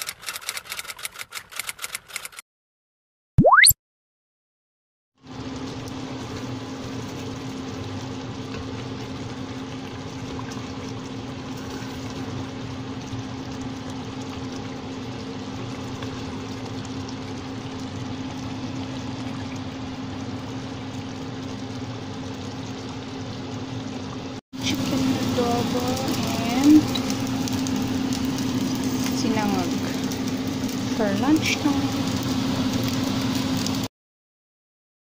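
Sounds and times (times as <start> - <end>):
pot bubbling and hissing: 5.2 - 33.9.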